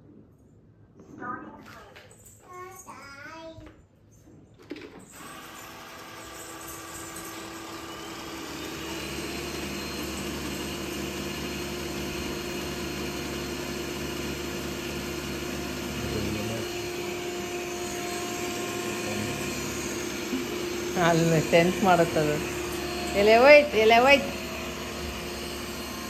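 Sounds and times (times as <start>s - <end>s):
robot vacuum motor hum and whine: 5.1s - 26.0s.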